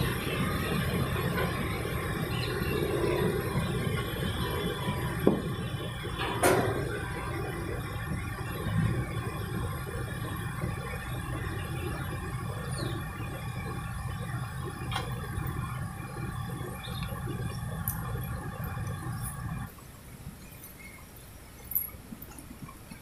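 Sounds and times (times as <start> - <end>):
machinery hum: 0.0 - 22.2.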